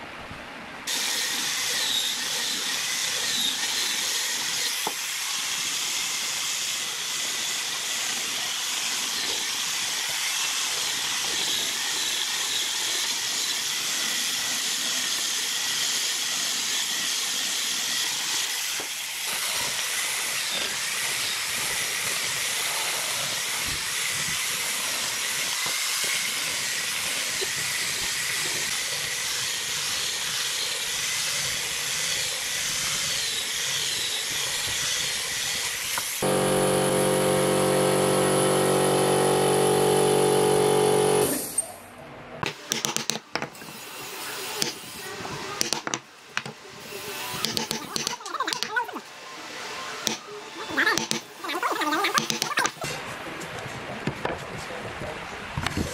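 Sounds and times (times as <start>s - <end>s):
angle grinder sanding wood: 0.9s - 41.6s, 46.7s - 49.0s, 50.0s - 53.0s.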